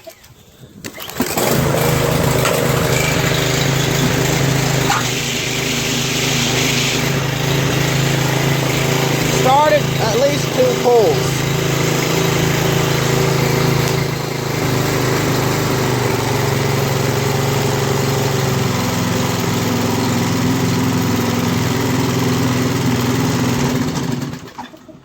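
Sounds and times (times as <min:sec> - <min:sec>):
small engine running: 0:00.9 - 0:24.8.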